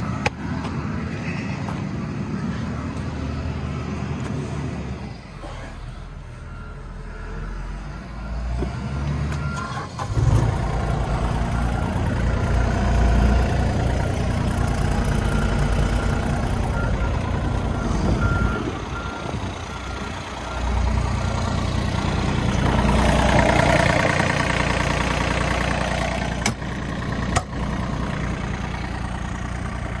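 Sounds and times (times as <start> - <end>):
diesel engine cranking and running: 0.0 - 30.0.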